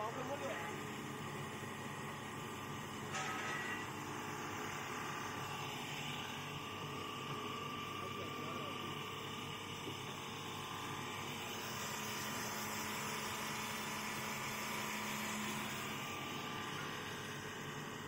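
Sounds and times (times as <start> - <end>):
extruder machine running: 0.0 - 18.0.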